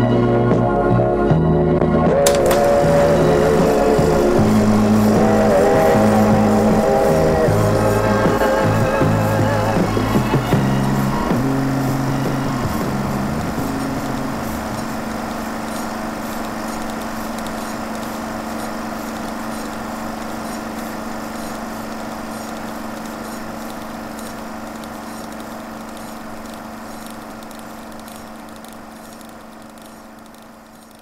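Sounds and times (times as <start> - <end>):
steady mechanical hum: 2.2 - 31.0
faint ticking: 2.3 - 31.0.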